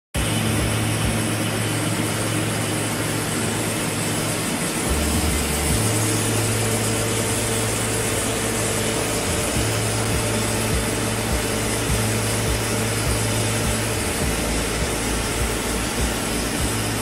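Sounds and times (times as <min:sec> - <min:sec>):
deeper hum: 0:00.2 - 0:17.0
low hum: 0:00.2 - 0:17.0
machine droning: 0:00.2 - 0:17.0.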